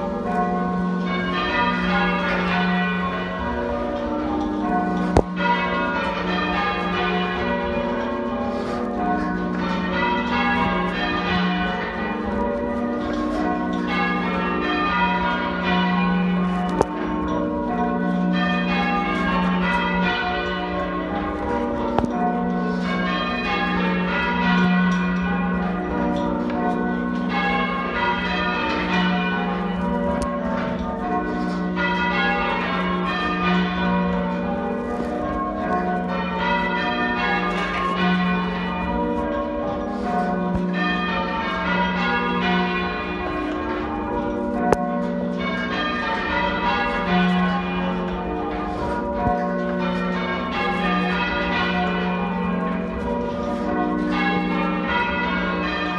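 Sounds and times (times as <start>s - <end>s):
church bells ringing half-muffled: 0.0s - 55.9s.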